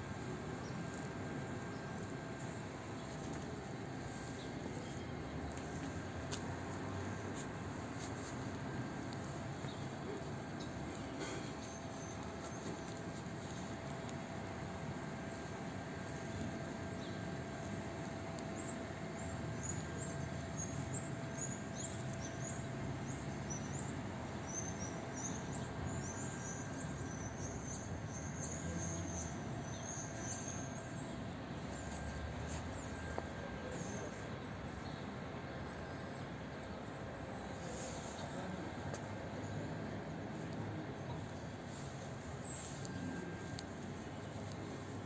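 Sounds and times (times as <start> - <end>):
small birds chirping: 0.1 - 45.0.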